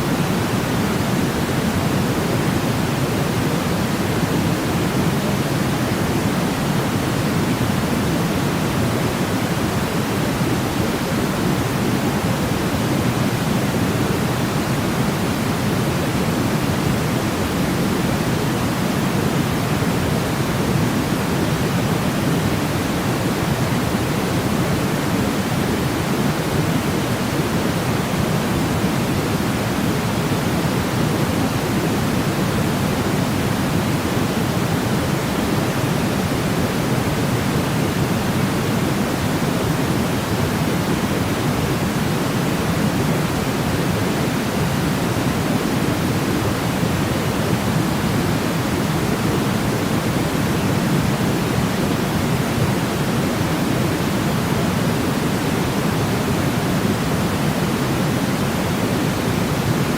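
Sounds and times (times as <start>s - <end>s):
deep white noise hiss: 0.0s - 59.9s.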